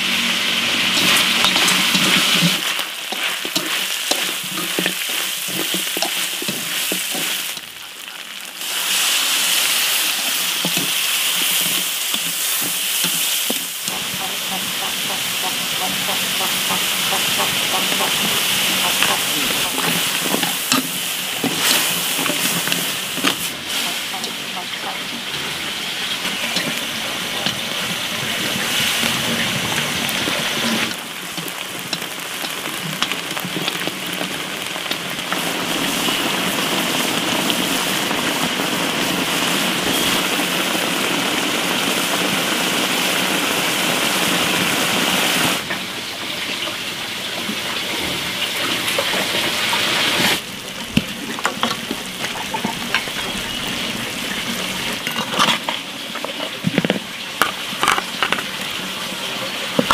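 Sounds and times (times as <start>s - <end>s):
meat sizzling in a wok: 0.0s - 59.9s.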